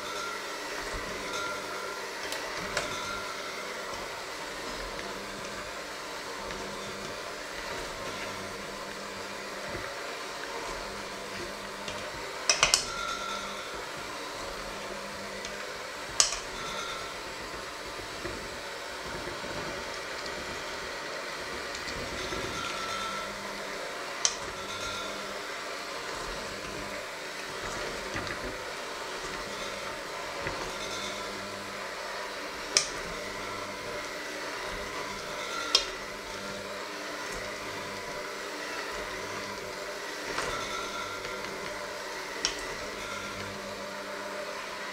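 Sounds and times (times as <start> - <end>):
electric hand mixer running: 0.0 - 44.9.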